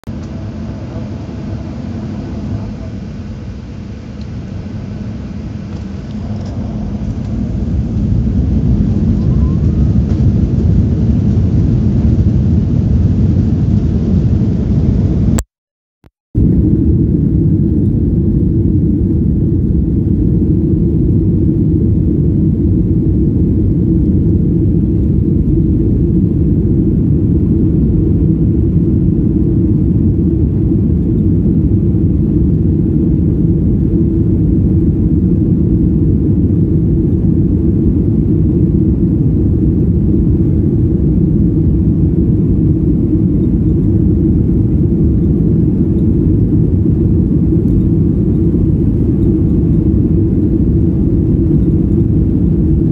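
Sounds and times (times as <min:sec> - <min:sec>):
aircraft cabin rumble taxiing: 0:00.1 - 0:15.4, 0:16.4 - 0:52.9.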